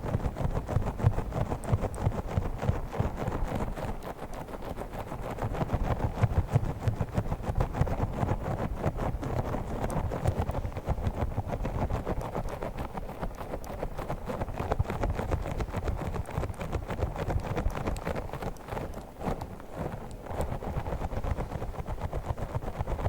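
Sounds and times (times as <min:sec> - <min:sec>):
fingers tapping and scratching plastic: 0:00.0 - 0:23.0.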